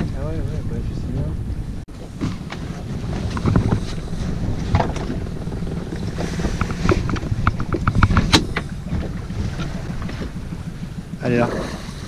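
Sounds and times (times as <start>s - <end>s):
outboard motor running: 0.0s - 12.0s
wind buffeting microphone: 0.0s - 12.0s.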